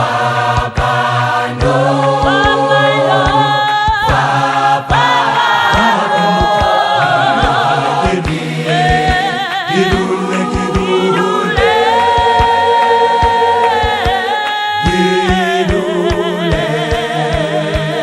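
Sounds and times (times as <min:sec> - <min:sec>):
choir singing in harmony: 0:00.0 - 0:18.0
regular percussive beat: 0:00.0 - 0:18.0.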